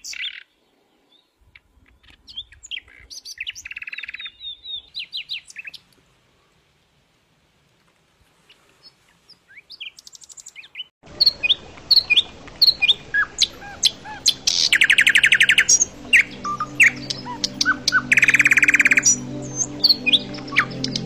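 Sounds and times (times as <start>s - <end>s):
songbirds chirping and singing: 0.0s - 6.0s, 8.4s - 21.0s.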